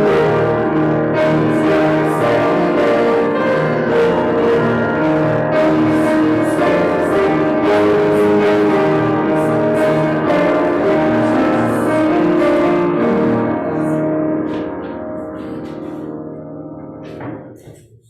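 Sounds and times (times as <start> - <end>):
keyboard playing church music: 0.0 - 18.0.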